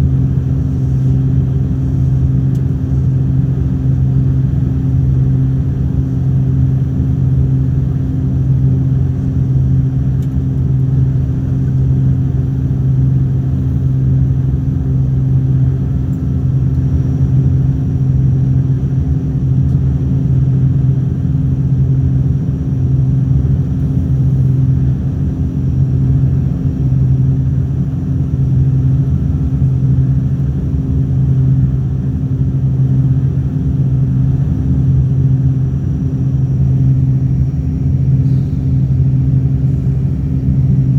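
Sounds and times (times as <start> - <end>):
airliner engines droning: 0.0 - 40.9.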